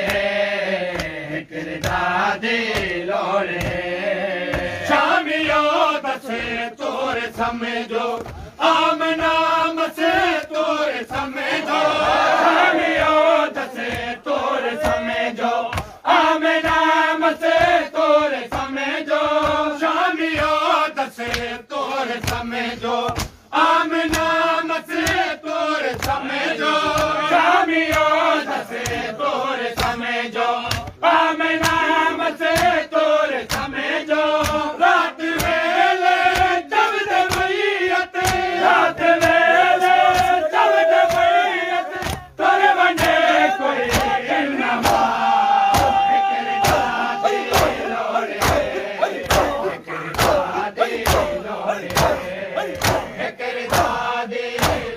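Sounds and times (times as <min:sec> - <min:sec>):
hands slapping chests: 0:00.0 - 0:54.9
men chanting in unison: 0:00.0 - 0:54.9.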